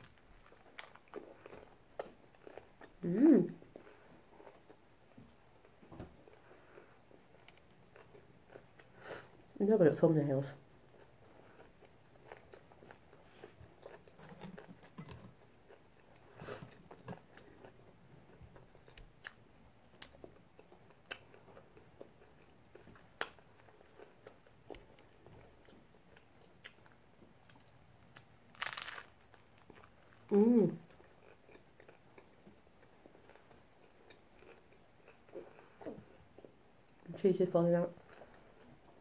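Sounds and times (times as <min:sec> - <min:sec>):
chewing with wet mouth sounds: 0:00.0 - 0:03.0, 0:05.6 - 0:09.5, 0:10.8 - 0:37.1, 0:37.8 - 0:39.0.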